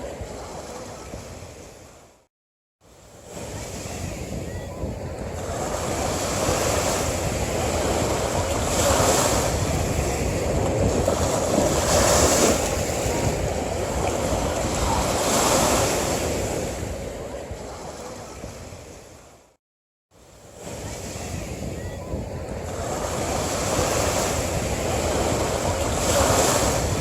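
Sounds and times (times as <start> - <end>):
sea waves breaking on beach: 0.0 - 19.6, 20.2 - 27.0.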